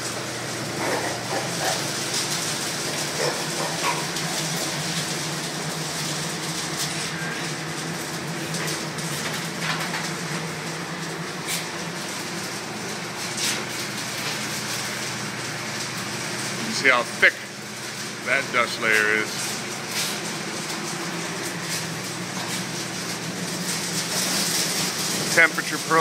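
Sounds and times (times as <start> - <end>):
ventilation fans humming: 0.0 - 26.0.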